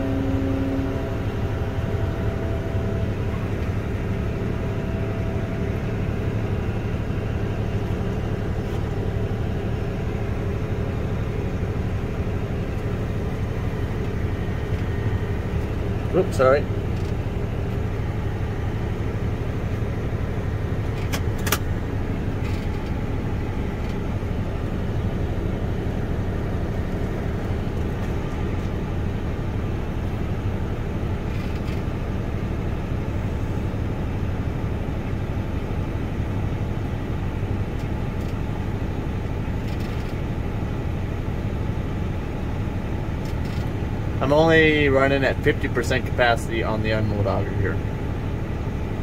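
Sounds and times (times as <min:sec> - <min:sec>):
tractor engine droning under load: 0:00.0 - 0:49.0.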